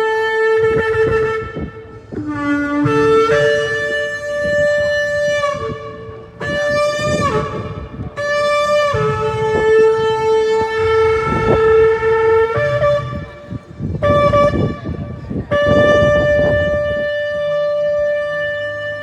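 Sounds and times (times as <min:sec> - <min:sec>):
shofar blasts: 0:00.0 - 0:19.0.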